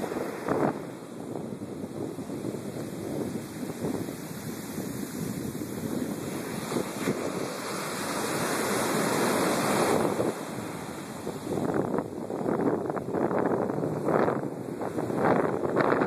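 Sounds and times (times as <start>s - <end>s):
ocean surf breaking on beach: 0.0s - 16.0s
wind buffeting microphone: 0.0s - 16.0s.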